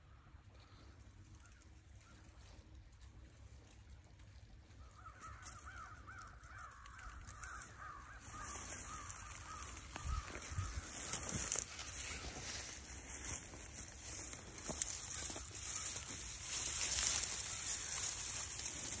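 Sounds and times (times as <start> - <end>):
faint bird calls: 0.0 - 19.0.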